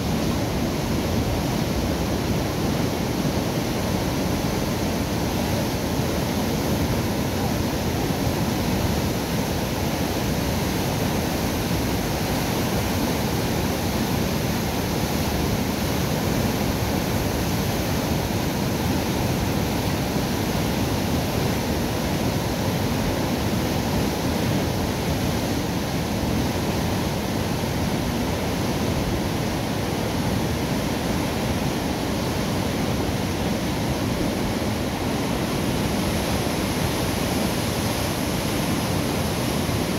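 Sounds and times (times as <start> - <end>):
water roaring through sluices: 0.0 - 39.9.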